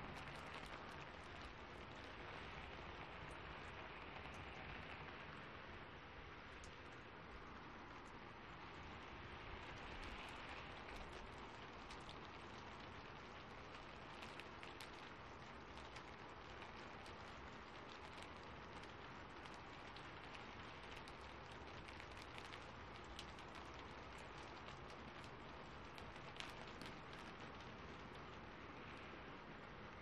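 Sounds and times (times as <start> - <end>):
faint steady rain: 0.0 - 30.0
sharp ticks and crackles: 0.0 - 30.0.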